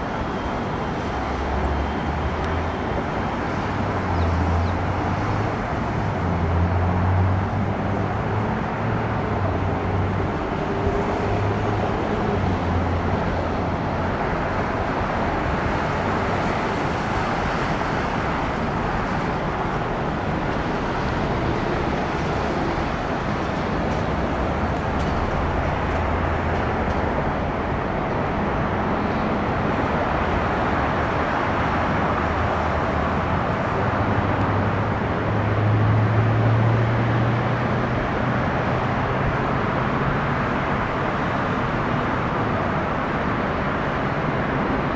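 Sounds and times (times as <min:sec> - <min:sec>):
engine rushing hum: 0:00.0 - 0:44.9.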